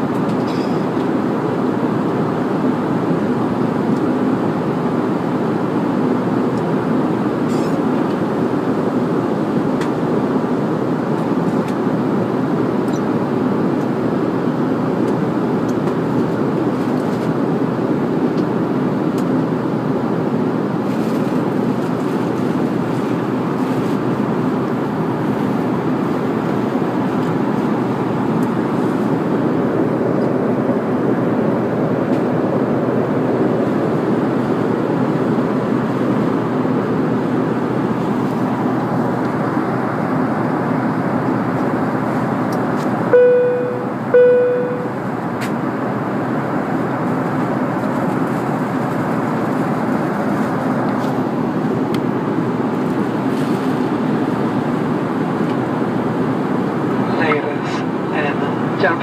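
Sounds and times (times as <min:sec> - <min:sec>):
airplane cabin engine noise: 0:00.0 - 0:59.0.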